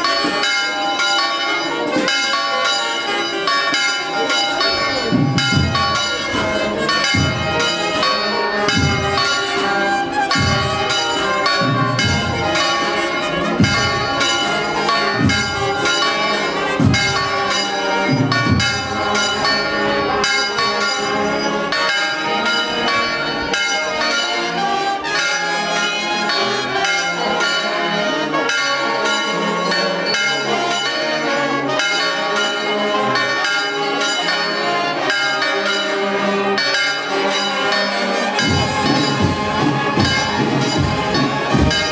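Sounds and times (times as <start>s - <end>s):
church bells pealing: 0.0s - 41.9s.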